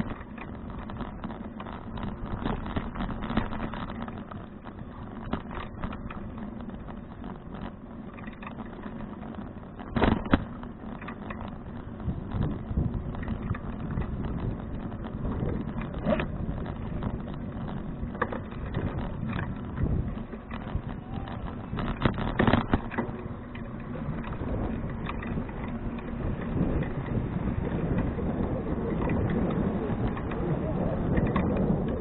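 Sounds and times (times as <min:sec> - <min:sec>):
bicycle knocks and rattles: 0:00.0 - 0:32.0
road rumble: 0:00.0 - 0:32.0
wind noise: 0:00.0 - 0:32.0.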